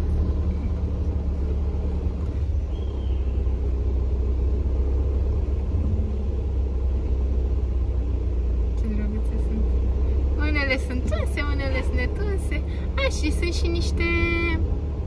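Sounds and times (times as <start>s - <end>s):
road rumble: 0.0s - 15.0s
van engine drone: 0.0s - 15.0s.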